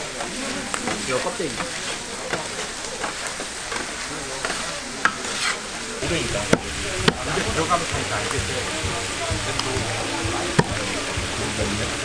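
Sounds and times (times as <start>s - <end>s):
meat sizzling on a griddle: 0.0s - 12.0s
spatula scraping griddle: 0.2s - 12.0s.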